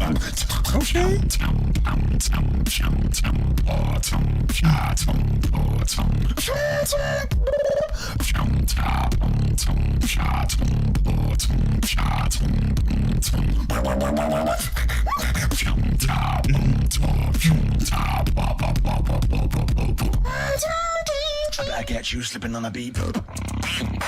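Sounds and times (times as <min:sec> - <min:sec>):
beatboxing kick and snare clicks: 0:00.0 - 0:06.6, 0:08.1 - 0:20.3, 0:22.8 - 0:24.0
continuous deep bass: 0:00.0 - 0:21.0
wavering vocal bass notes: 0:00.0 - 0:22.2.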